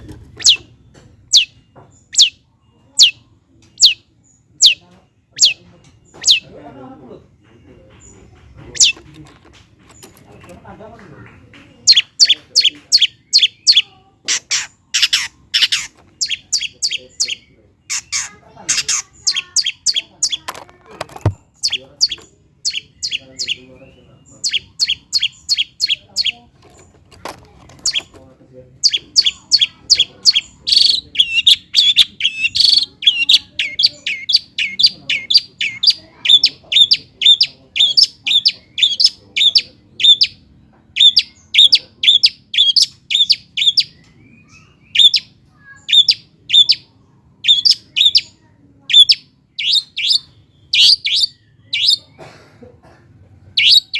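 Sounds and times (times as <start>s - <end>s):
bird singing sharp repeated notes: 0.0s - 6.9s, 8.0s - 9.0s, 11.7s - 20.5s, 21.2s - 26.5s, 27.8s - 52.2s, 53.5s - 53.9s.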